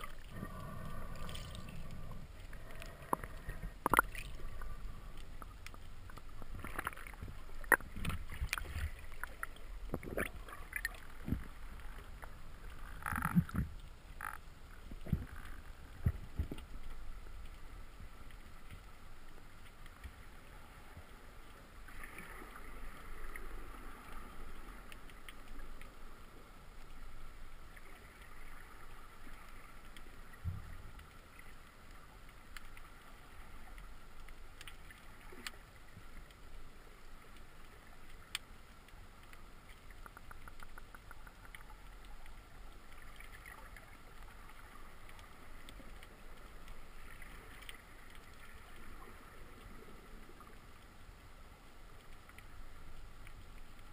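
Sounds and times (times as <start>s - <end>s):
muffled underwater hiss: 0.0s - 53.9s.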